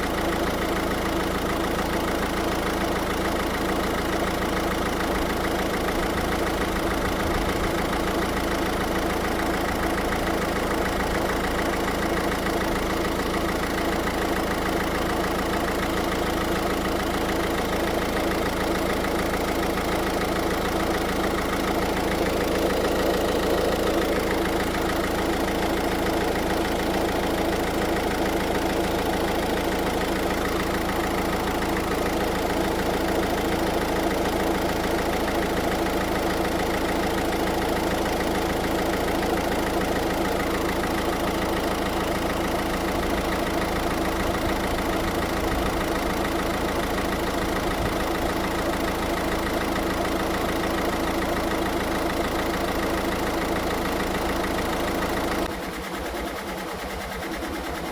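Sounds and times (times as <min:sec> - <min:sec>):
car engine idling: 0:00.0 - 0:57.9.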